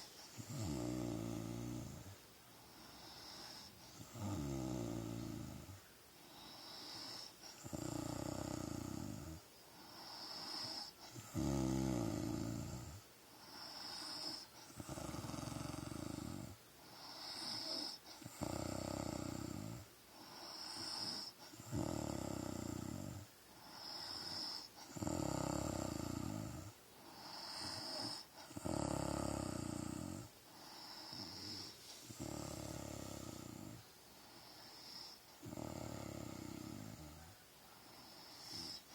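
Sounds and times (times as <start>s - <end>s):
woman snoring: 0.0s - 2.2s, 2.8s - 37.3s, 38.0s - 38.9s.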